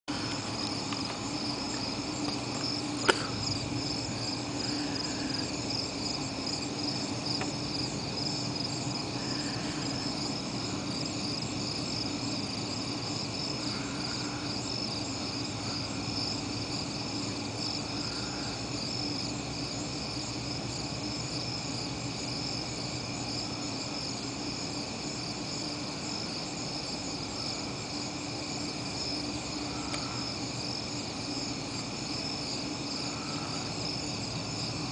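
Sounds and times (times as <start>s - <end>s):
crickets chirring: 0.1s - 34.9s.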